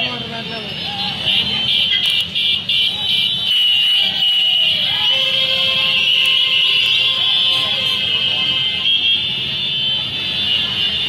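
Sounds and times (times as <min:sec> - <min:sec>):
crowd noise: 0:00.0 - 0:11.0
motorbike engines rumbling: 0:00.0 - 0:11.0.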